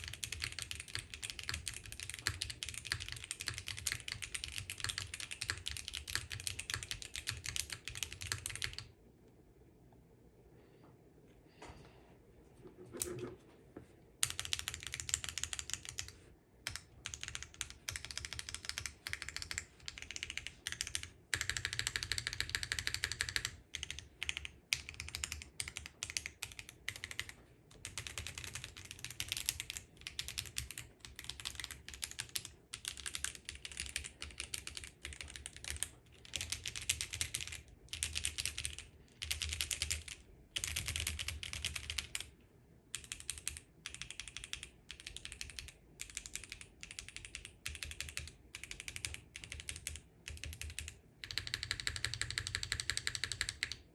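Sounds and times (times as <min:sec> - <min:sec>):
mechanical keyboard typing: 0:00.0 - 0:08.9, 0:14.2 - 0:42.3, 0:42.9 - 0:53.9.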